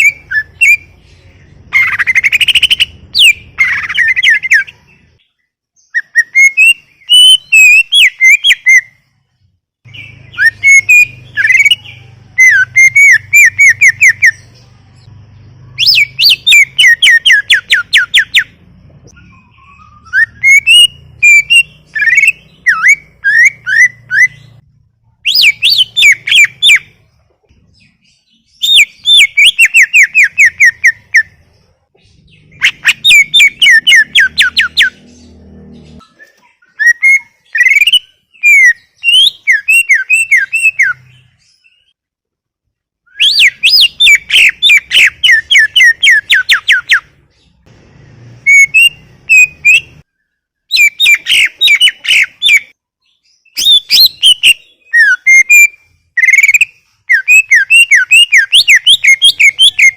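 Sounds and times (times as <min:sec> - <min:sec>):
bird singing falling whistles: 0:00.0 - 0:01.0, 0:01.7 - 0:05.0, 0:05.8 - 0:09.1, 0:09.9 - 0:14.4, 0:15.5 - 0:24.6, 0:25.2 - 0:27.0, 0:27.8 - 0:31.4, 0:32.2 - 0:35.2, 0:36.0 - 0:42.0, 0:43.1 - 0:47.1, 0:48.4 - 0:50.1, 0:50.7 - 0:59.9.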